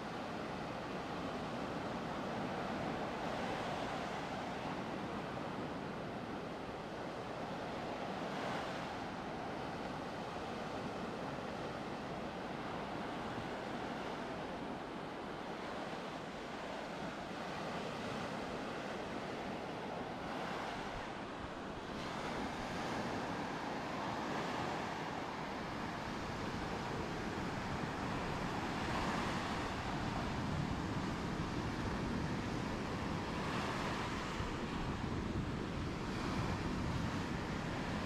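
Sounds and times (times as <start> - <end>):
ocean surf breaking on beach: 0.0 - 38.0.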